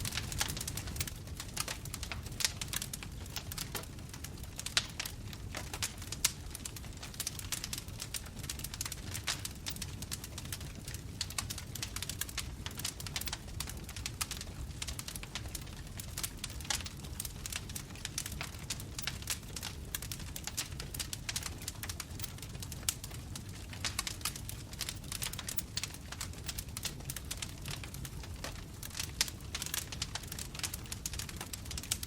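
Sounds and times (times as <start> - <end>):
bonfire crackling: 0.0 - 32.0.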